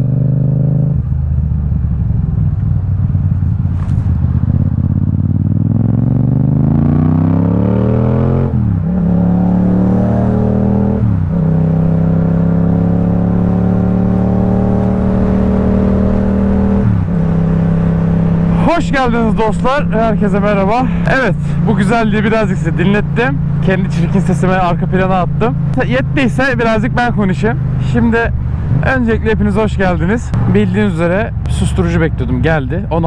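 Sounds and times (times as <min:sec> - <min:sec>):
motorcycle engine revving: 0:00.0 - 0:29.1.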